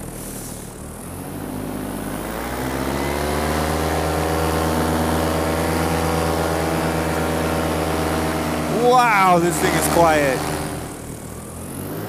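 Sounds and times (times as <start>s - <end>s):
paramotor engine and propeller: 0.0s - 12.0s.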